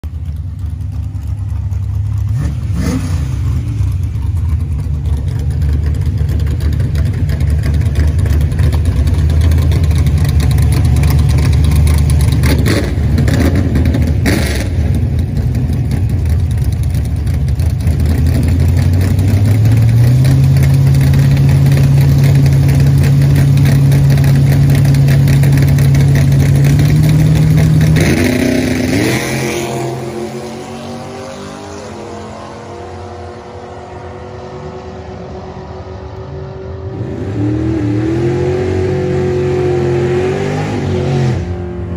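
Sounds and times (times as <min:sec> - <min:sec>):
drag car engine rumbling: 0:00.0 - 0:41.9.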